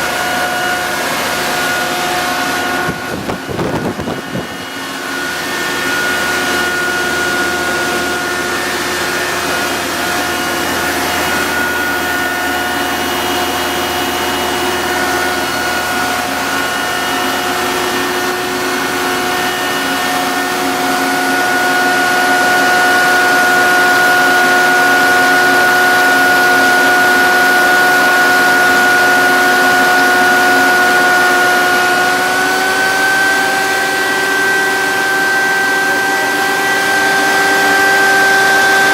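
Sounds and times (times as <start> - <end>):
ventilation fan whining: 0.0 - 38.9.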